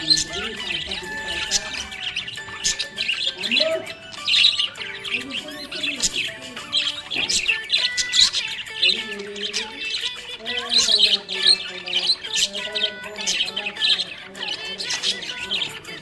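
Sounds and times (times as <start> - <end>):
parrots chirping and squawking: 0.0 - 16.0.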